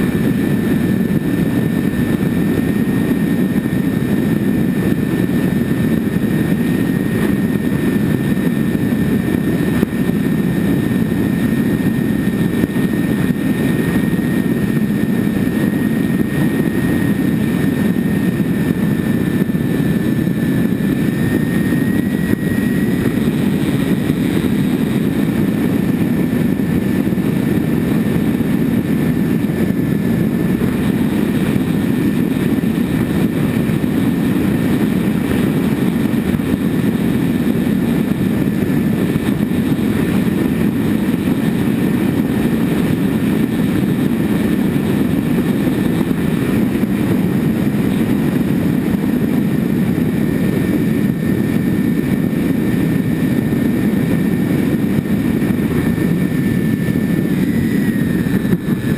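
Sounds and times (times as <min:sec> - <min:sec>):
model plane engines droning: 0:00.0 - 0:58.9
thin steady whine: 0:00.0 - 0:58.9.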